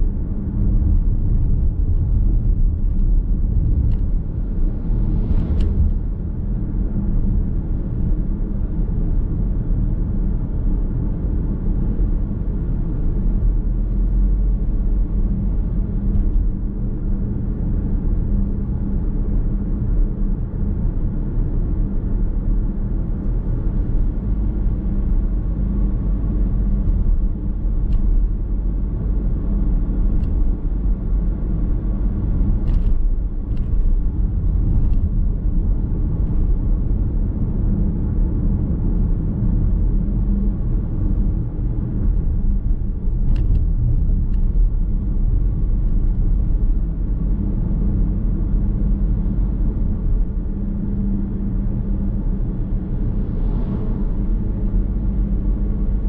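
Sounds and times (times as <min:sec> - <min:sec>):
car road rumble inside cabin: 0:00.0 - 0:56.0.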